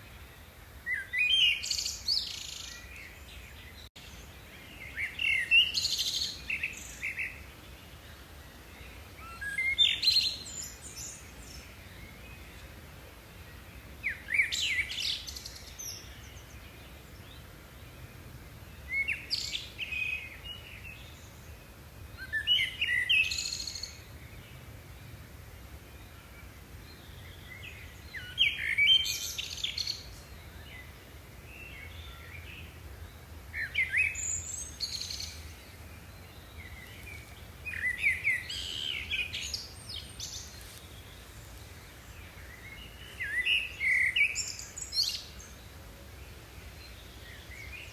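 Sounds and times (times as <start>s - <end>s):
songbird chirping: 0.0s - 47.9s.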